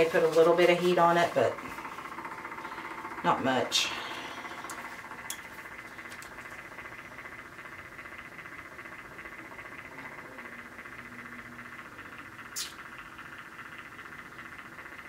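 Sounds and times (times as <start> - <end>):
small electric motor running: 0.0 - 15.0.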